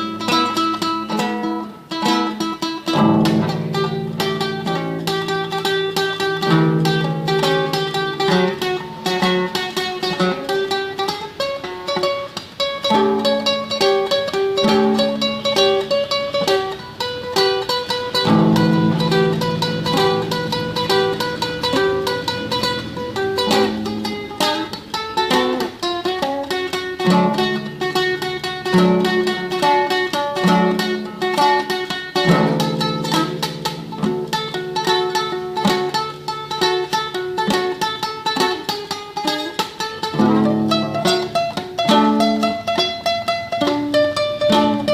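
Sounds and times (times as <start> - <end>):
classical guitar tremolo melody: 0.0 - 44.9.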